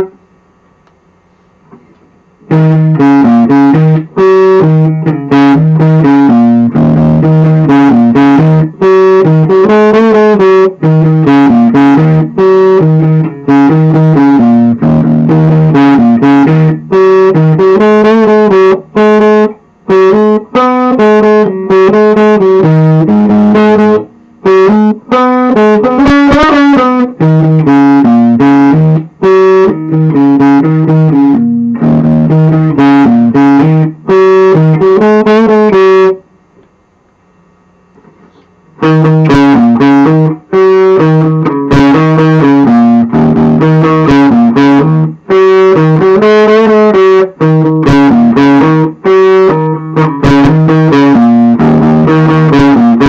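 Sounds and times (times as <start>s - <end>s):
electric guitar through amplifier: 0.0s - 53.0s.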